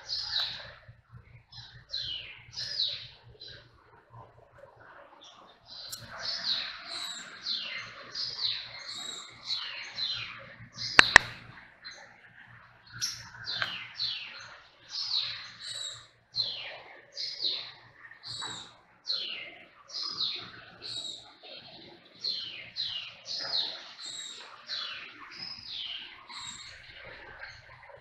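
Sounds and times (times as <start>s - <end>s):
birds chirping: 0.0s - 4.1s, 5.1s - 28.0s.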